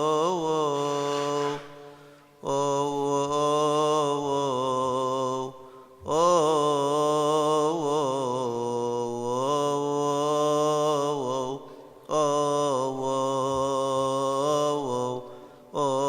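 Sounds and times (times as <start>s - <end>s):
man chanting a hymn solo: 0.0s - 16.0s.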